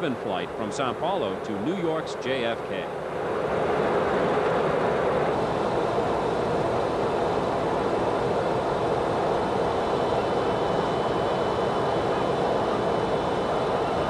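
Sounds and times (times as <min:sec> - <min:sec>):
airplane in flight: 0:00.0 - 0:14.0.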